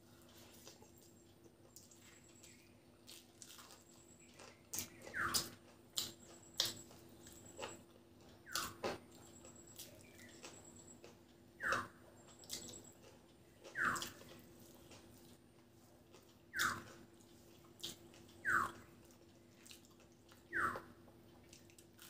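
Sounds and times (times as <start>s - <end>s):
wet chewing and mouth smacks: 0.1s - 22.0s.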